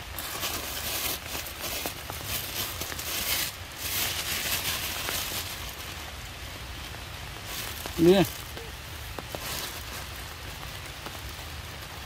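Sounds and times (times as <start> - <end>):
light rain pattering on leaves: 0.0 - 12.0.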